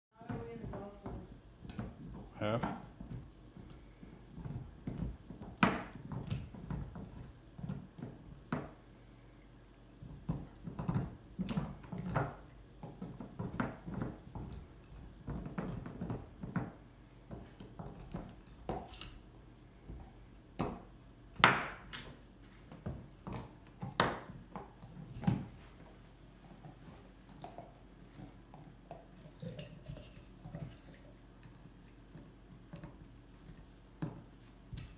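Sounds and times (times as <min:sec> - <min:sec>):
dog gnawing on a bone: 0:01.6 - 0:19.2, 0:21.4 - 0:34.9.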